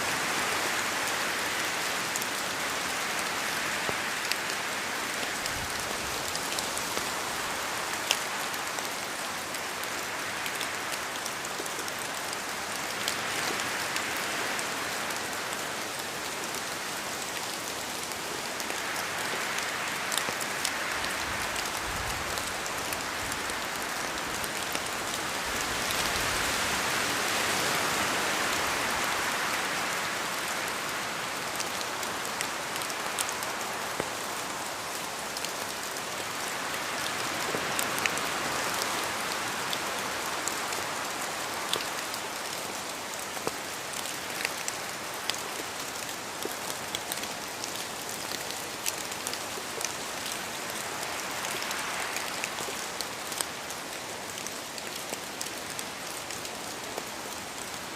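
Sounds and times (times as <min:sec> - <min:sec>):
steady rain in a forest: 0:00.0 - 0:57.9
wind gusts through trees: 0:00.0 - 0:57.9.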